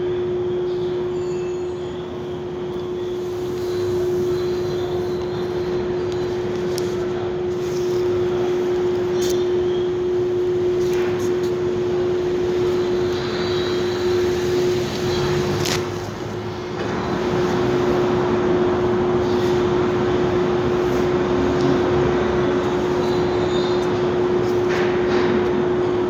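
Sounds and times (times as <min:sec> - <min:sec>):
droning hum: 0:00.0 - 0:26.0
machine and traffic noise: 0:00.0 - 0:26.0.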